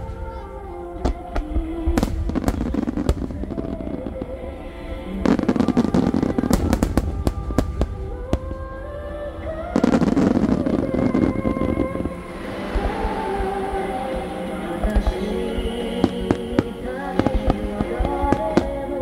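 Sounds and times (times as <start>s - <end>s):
fireworks bangs: 0.0s - 19.0s
fireworks crackling and booming: 0.0s - 19.0s
music playing: 0.0s - 19.0s.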